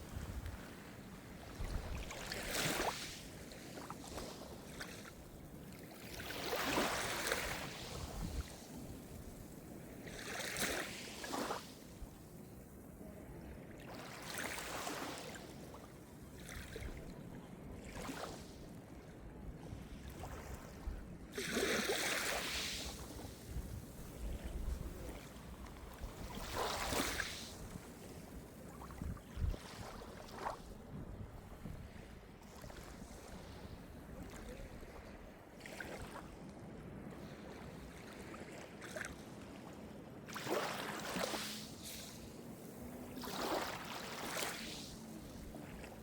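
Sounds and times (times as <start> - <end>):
small waves washing in: 0.0 - 12.0, 19.8 - 36.4, 37.0 - 46.0.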